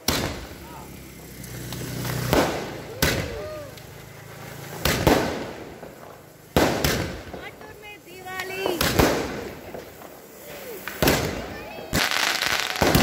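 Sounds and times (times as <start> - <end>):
fireworks bangs: 0.0 - 13.0
fireworks crackle: 0.0 - 13.0.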